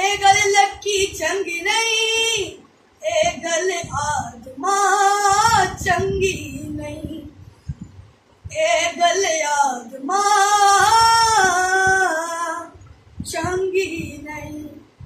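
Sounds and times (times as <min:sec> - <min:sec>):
boy singing a hymn: 0:00.0 - 0:07.4, 0:08.5 - 0:15.0.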